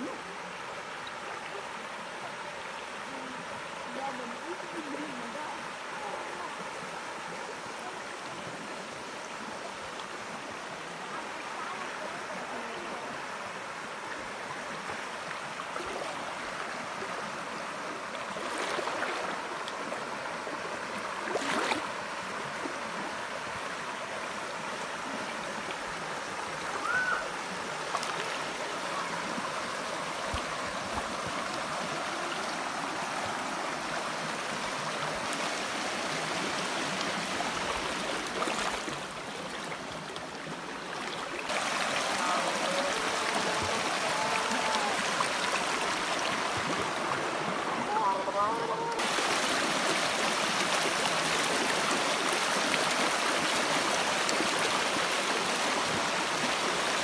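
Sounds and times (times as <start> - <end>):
river running over rocks: 0.0 - 57.0.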